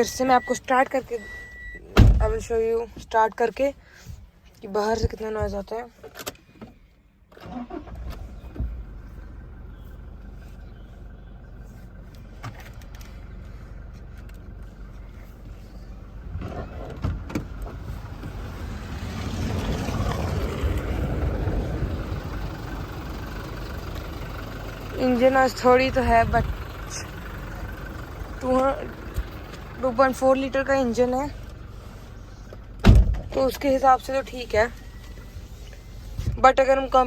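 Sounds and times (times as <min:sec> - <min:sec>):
diesel engine starting and idling: 0:00.0 - 0:37.0.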